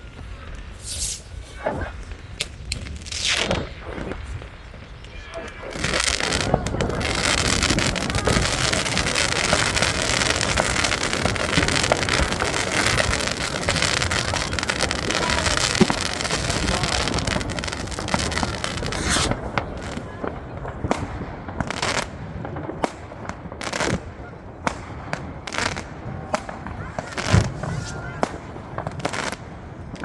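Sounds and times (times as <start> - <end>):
fireworks crackling and banging: 0.0 - 30.0.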